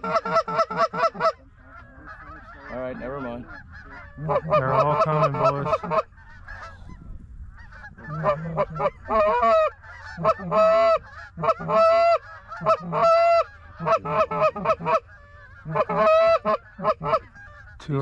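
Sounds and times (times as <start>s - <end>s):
goose honking: 0.0s - 18.0s
low wind rumble: 0.0s - 18.0s.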